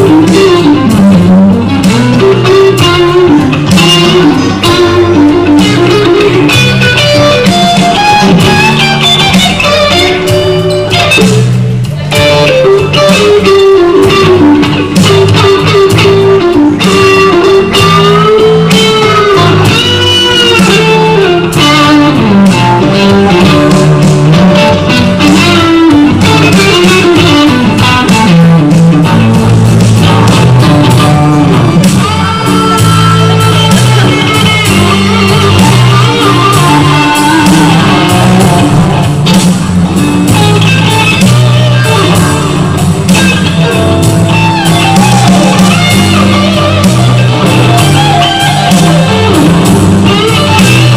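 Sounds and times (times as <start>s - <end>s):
bass guitar: 0.0s - 50.9s
electric guitar solo: 0.0s - 50.9s
rhythm guitar: 0.0s - 50.9s.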